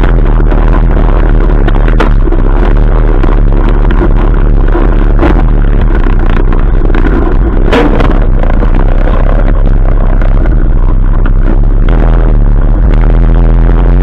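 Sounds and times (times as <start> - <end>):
atv engine running loud: 0.0 - 14.0.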